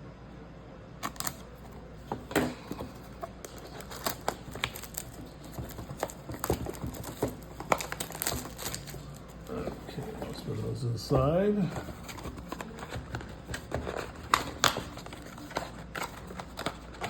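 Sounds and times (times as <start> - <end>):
cellophane and cardboard crinkling: 1.0 - 17.0.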